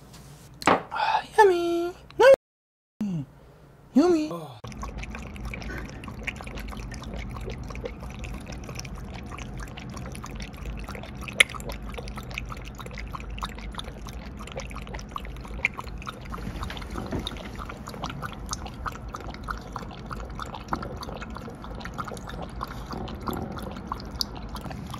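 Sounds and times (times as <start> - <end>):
dog lapping water: 4.6 - 24.9.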